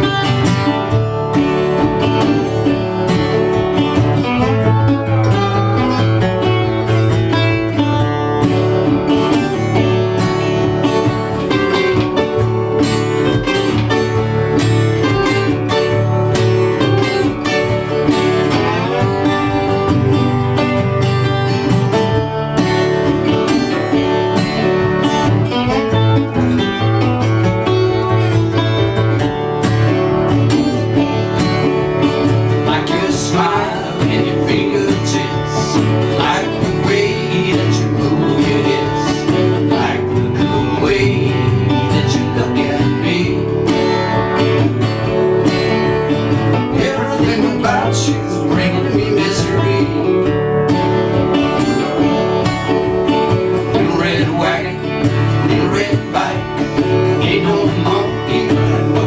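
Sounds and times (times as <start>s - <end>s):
acoustic guitar folk song: 0.0s - 59.0s.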